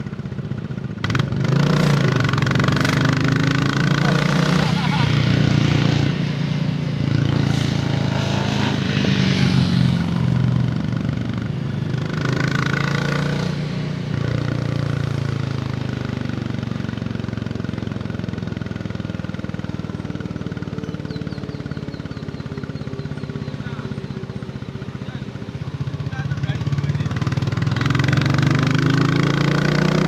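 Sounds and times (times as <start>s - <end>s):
motorcycle engine and exhaust: 0.0s - 30.0s.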